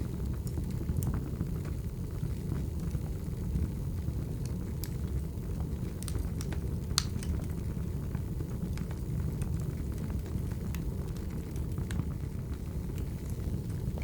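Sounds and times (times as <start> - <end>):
fire rumbling: 0.0 - 14.0
firewood crackling and popping: 0.0 - 14.0.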